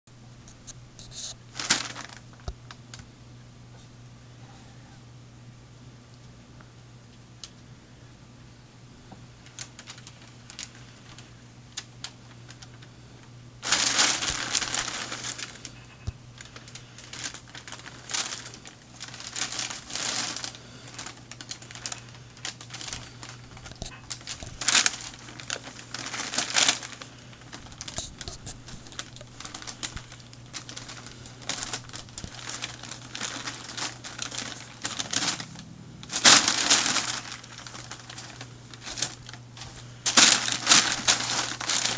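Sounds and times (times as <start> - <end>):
packing paper crinkling: 0.5 - 3.1, 9.4 - 12.9, 13.6 - 41.9.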